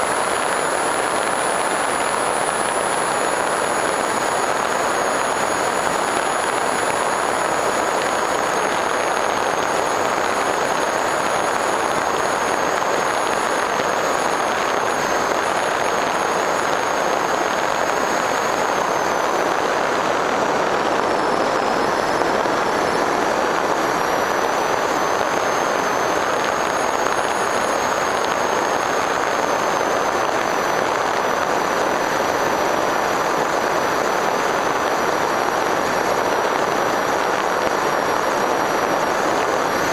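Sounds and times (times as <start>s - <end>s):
airflow and propeller noise: 0.0s - 39.9s
high electric motor whine: 0.0s - 39.9s.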